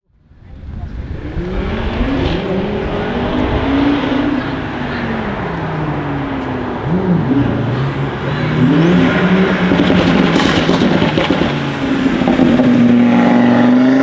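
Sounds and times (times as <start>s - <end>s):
car engine accelerating hard: 0.3s - 14.0s.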